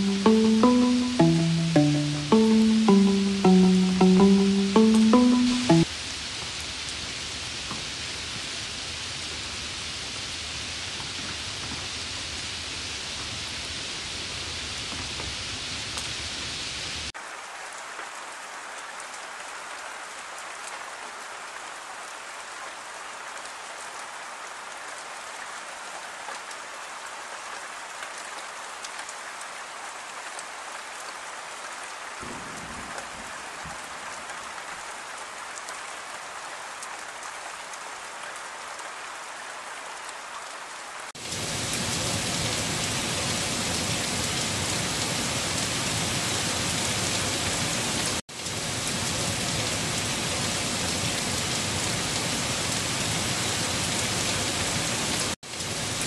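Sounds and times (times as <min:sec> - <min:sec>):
heavy rain on wet ground: 0:00.0 - 0:56.0
light rain on trees: 0:00.0 - 0:56.0.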